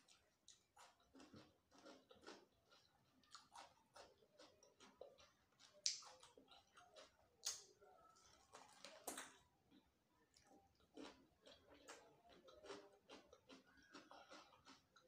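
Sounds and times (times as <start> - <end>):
cucumber crunches: 0.0 - 9.4, 10.8 - 15.0
chewing raw cucumber: 0.0 - 15.0.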